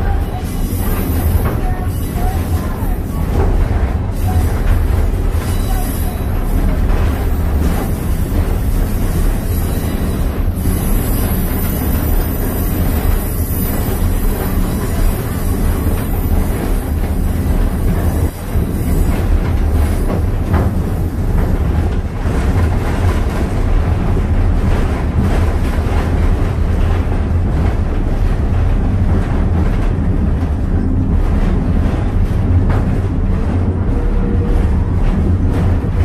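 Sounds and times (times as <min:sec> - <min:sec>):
train rumbling on track: 0:00.0 - 0:36.0.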